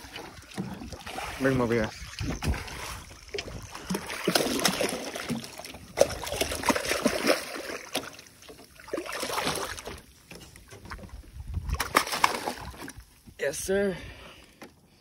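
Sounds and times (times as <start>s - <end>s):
fish thrashing and splashing: 0.0s - 13.2s.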